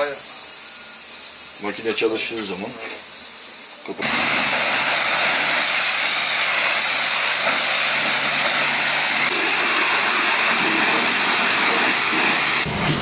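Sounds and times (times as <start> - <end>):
pressure washer spraying water: 0.0 - 13.0.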